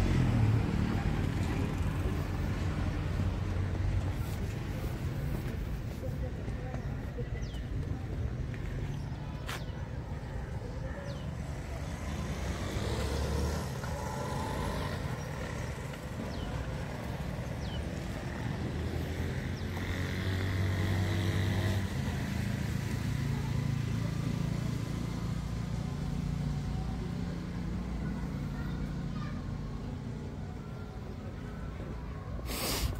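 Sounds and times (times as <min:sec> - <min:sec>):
vehicles driving past: 0:00.0 - 0:32.9.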